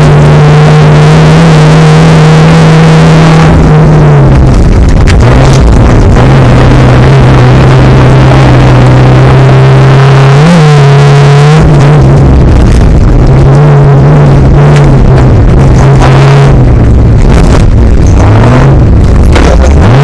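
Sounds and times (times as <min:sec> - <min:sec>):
race car engine running hard: 0:00.0 - 0:20.0.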